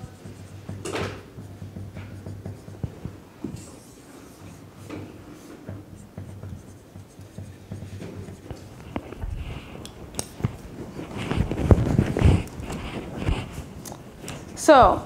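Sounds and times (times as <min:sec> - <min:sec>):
marker writing on whiteboard: 0:00.0 - 0:14.6.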